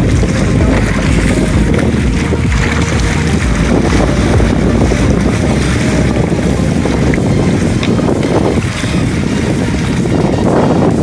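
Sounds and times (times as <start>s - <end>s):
sea water splashing: 0.0s - 11.0s
wind buffeting microphone: 0.0s - 11.0s.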